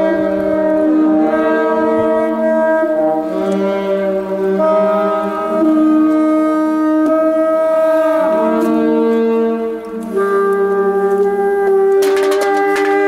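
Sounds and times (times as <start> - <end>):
saxophone duet: 0.0 - 13.0.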